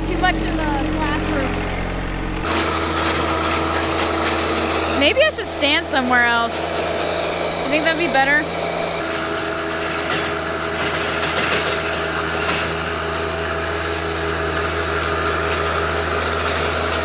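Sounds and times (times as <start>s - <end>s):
tractor diesel engine under load: 0.0s - 17.0s
rotary tiller in soil: 0.2s - 17.0s.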